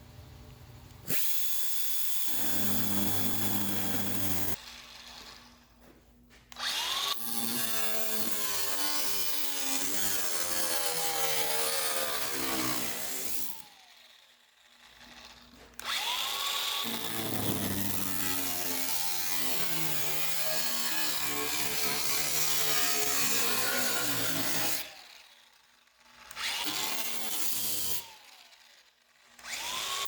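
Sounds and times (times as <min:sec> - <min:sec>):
power tool cutting metal sheet: 0:01.0 - 0:30.0.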